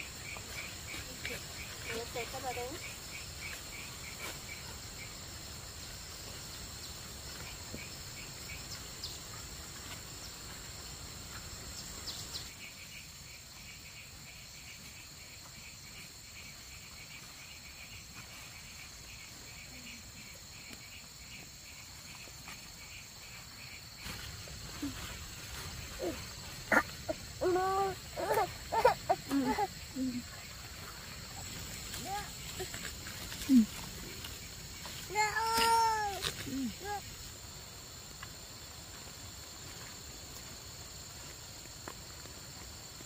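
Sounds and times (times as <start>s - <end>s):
insects chirping: 0.0s - 43.0s.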